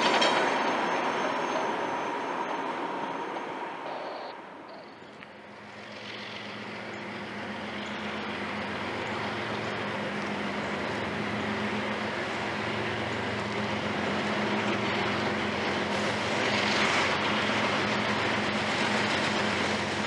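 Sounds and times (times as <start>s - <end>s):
distant diesel locomotive drone: 0.0s - 20.0s.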